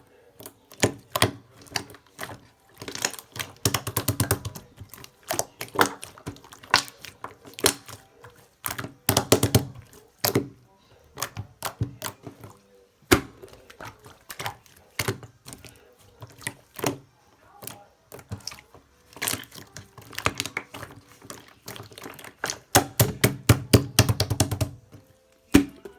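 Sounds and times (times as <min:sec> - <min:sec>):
slime squishing and popping: 0:00.4 - 0:25.9.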